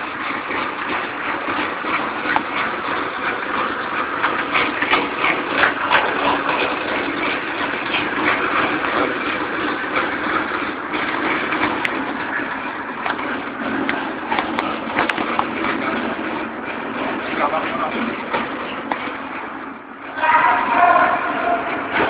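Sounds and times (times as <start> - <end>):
lathe droning: 0.0 - 22.0.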